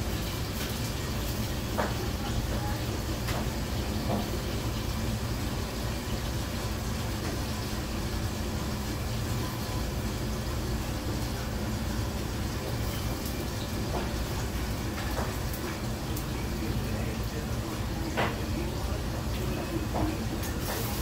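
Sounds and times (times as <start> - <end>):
wok range and exhaust hood hissing: 0.0 - 21.0.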